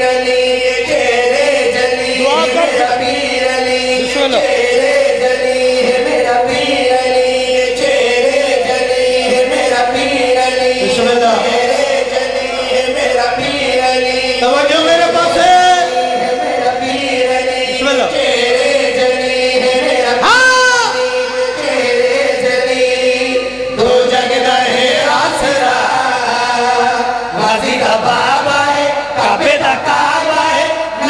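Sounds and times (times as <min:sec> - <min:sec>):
men chanting into microphones: 0:00.0 - 0:31.0.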